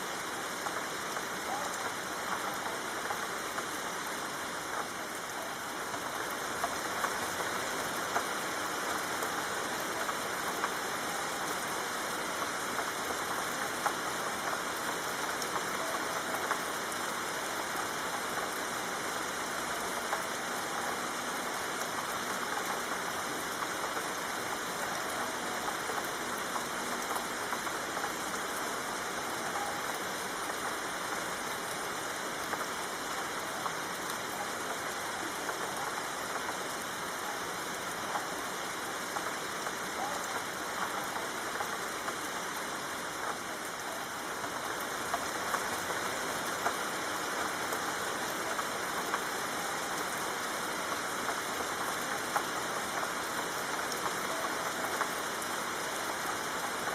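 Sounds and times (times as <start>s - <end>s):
rain falling: 0.0s - 56.9s
raindrop ticks: 0.1s - 56.9s.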